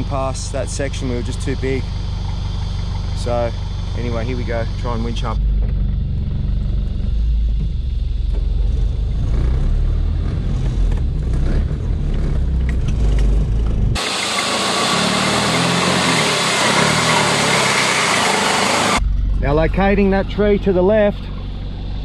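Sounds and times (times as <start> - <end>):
harsh hissy mechanical noise: 0.0 - 11.1, 12.4 - 22.0
diesel engine rumbling: 0.0 - 22.0.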